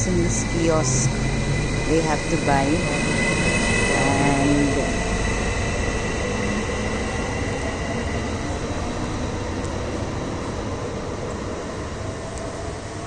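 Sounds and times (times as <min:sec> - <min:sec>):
electric train rumble: 0:00.0 - 0:13.0
high train whine: 0:00.0 - 0:13.0.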